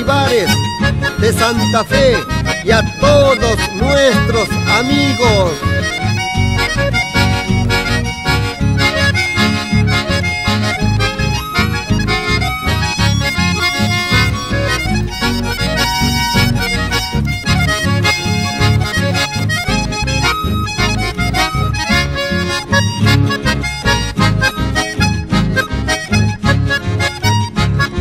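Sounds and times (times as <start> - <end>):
accordion dance music: 0.0 - 28.0
pulsing bass beat: 0.0 - 28.0.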